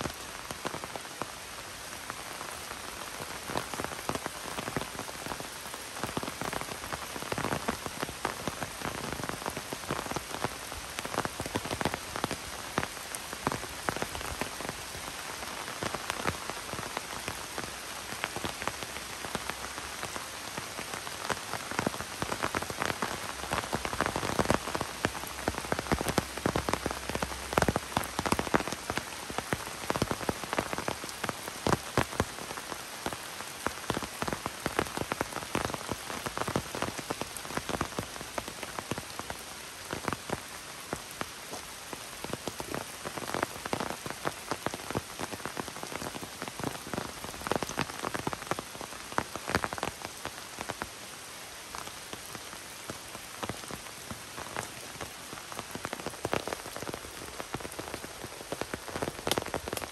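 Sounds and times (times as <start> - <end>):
rain on foliage: 0.0 - 59.9
raindrops landing close by: 0.0 - 59.9.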